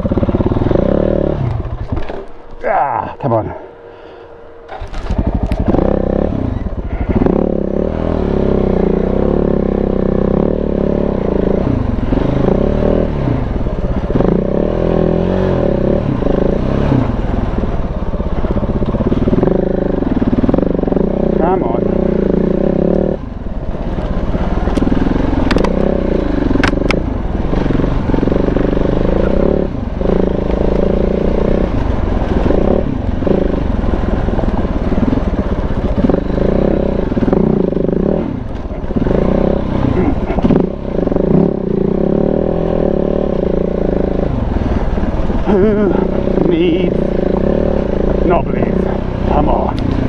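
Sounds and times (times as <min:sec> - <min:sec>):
single-cylinder motorcycle engine revving: 0:00.0 - 0:50.0.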